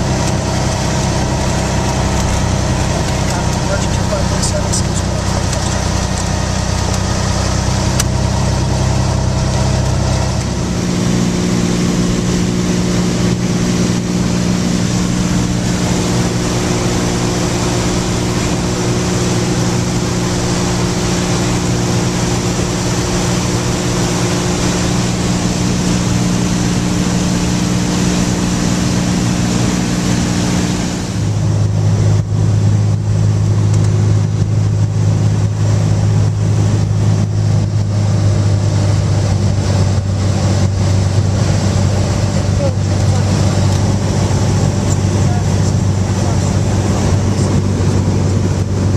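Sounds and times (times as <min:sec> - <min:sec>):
aircraft piston engine and propeller drone: 0:00.0 - 0:48.9.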